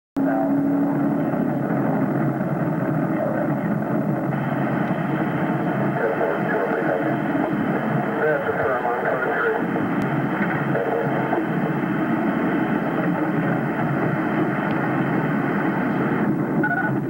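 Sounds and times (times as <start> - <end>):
car engine and road noise: 0.2 - 17.0
faint voices: 0.2 - 17.0.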